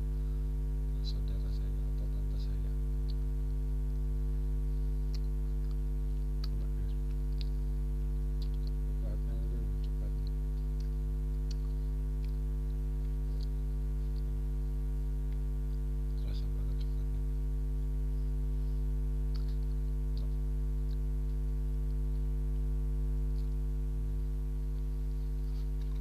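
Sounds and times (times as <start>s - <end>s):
electrical mains hum: 0.0s - 26.0s
mouth clicks while chewing: 2.8s - 4.2s, 4.9s - 9.0s, 9.7s - 26.0s.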